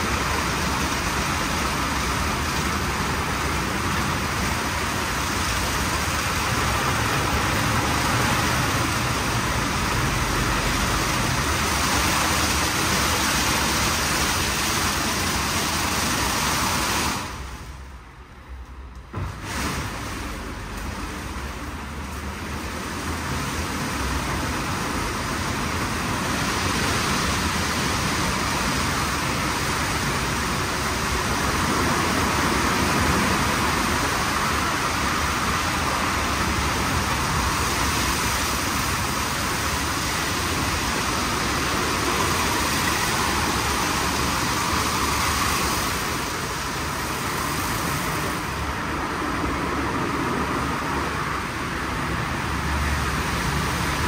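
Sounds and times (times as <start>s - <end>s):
automatic car wash rushing: 0.0s - 54.0s.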